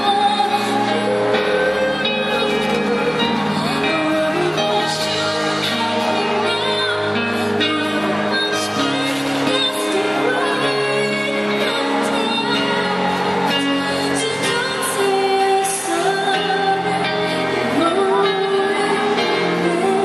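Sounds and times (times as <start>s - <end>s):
instrumental backing music: 0.0s - 20.0s
woman singing into microphone: 0.0s - 20.0s.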